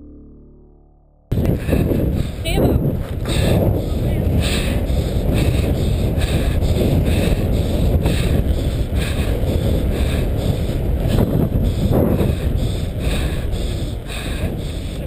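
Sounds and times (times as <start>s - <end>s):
wind rumbling on microphone: 1.3s - 15.0s.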